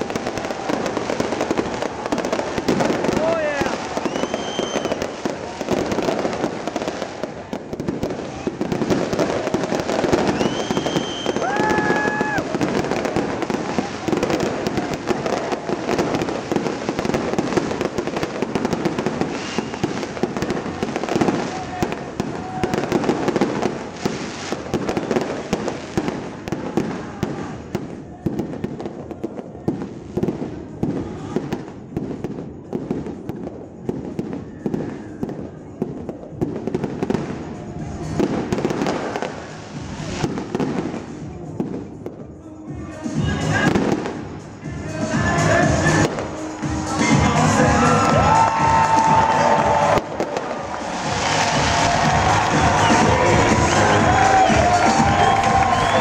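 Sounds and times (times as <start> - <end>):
firework whistles: 0.0 - 56.0
fireworks booming and crackling: 0.0 - 56.0.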